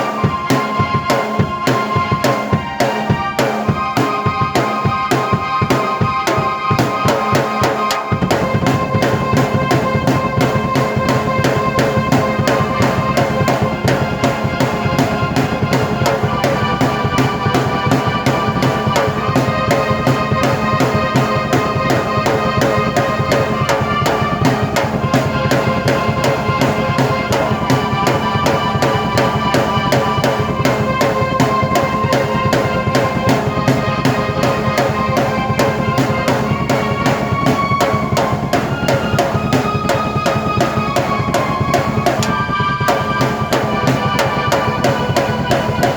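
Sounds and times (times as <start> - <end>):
fast drum kit beat: 0.0 - 45.9
held keyboard chords: 0.0 - 45.9.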